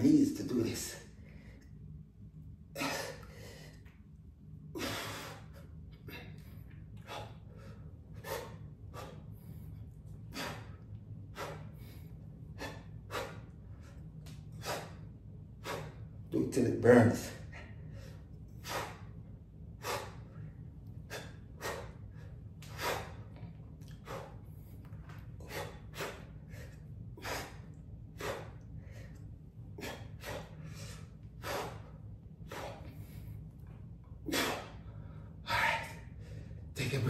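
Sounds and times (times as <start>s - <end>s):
man breathing hard: 1.0s - 1.8s, 2.7s - 4.0s, 4.7s - 16.3s, 17.3s - 36.8s.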